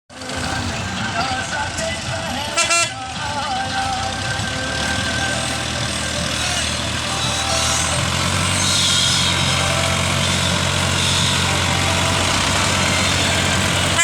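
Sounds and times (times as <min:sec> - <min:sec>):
tractor diesel engine running: 0:00.1 - 0:14.0.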